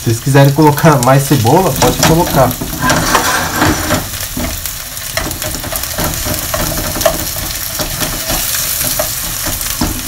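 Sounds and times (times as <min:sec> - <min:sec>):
onions sizzling in oil: 0:00.0 - 0:10.0
spatula scraping pan: 0:01.6 - 0:10.0.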